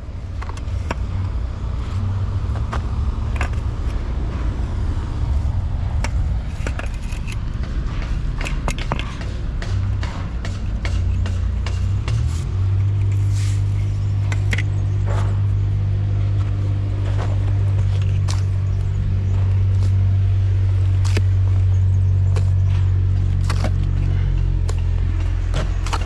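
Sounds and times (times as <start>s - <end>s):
engine humming: 0.0s - 26.0s
scattered clicks and knocks: 2.4s - 26.0s.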